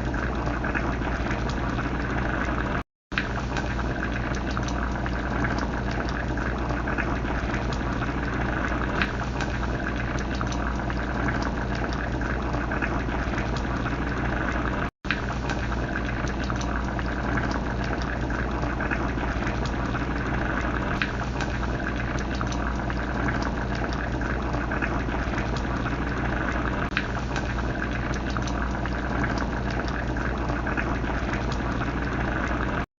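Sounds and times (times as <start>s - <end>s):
pot boiling with bubbling: 0.0s - 32.9s.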